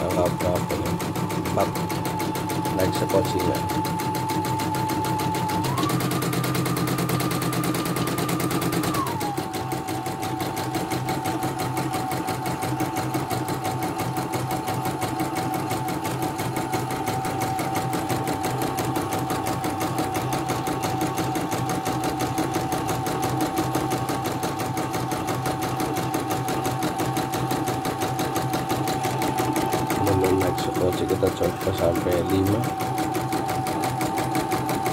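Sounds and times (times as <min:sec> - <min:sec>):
embroidery machine stitching: 0:00.0 - 0:34.9.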